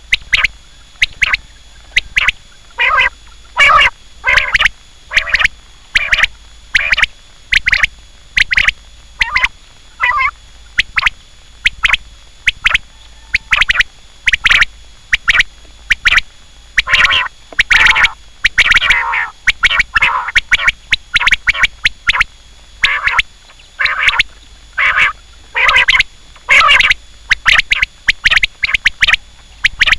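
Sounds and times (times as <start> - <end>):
quail calling: 0.0 - 29.9.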